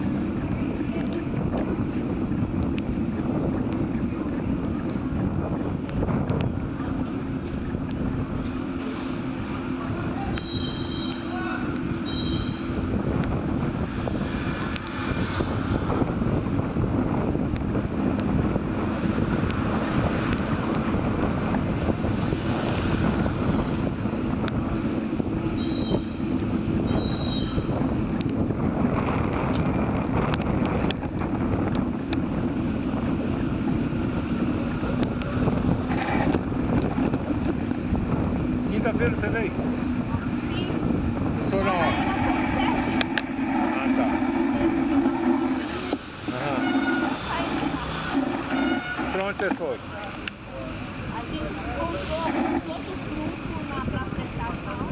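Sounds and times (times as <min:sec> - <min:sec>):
wind rushing over microphone: 0:00.0 - 0:49.9, 0:50.8 - 0:54.9
road noise: 0:00.0 - 0:54.9.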